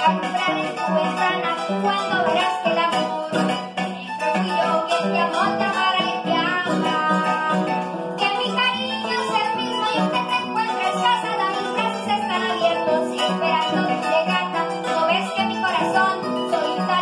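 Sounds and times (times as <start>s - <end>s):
boy singing: 0.0s - 17.0s
harp plucking: 0.0s - 17.0s.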